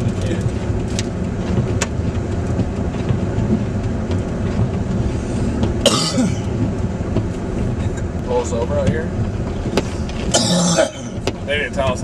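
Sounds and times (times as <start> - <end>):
car tyres and engine rumble: 0.0 - 12.0.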